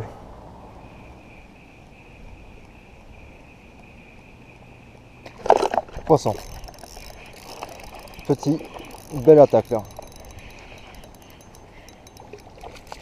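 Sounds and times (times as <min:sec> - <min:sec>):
outdoor background hiss: 0:00.0 - 0:13.0
faint insect trill: 0:00.8 - 0:13.0.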